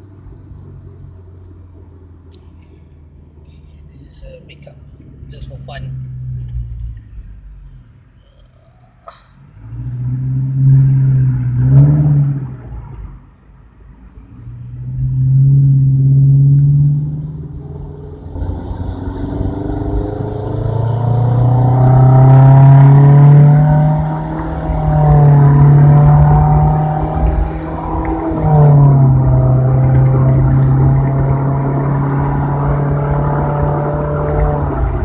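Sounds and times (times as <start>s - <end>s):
car engine accelerating hard: 4.1s - 13.4s, 14.0s - 35.0s.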